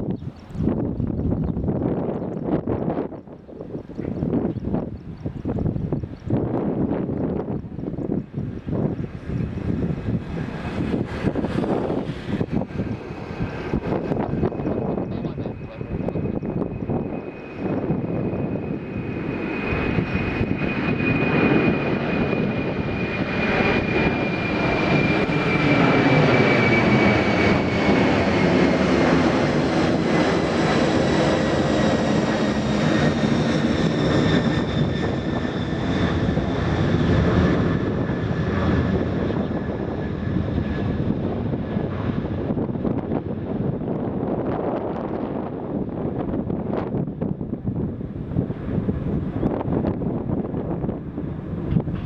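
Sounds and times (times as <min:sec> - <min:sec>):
jet engine whine: 0:00.0 - 0:52.0
jet engines rumbling: 0:00.0 - 0:52.0.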